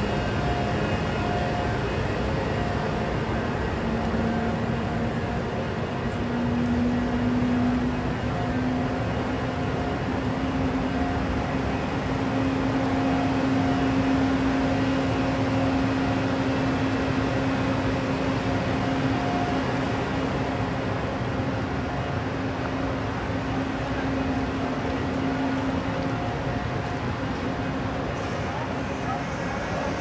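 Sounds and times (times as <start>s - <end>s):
electric train humming: 0.0s - 30.0s.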